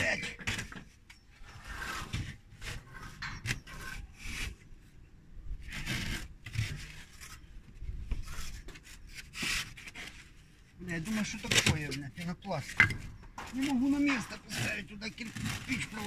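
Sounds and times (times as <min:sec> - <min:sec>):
brick scraping against foam board: 0:00.0 - 0:04.7, 0:05.5 - 0:16.0.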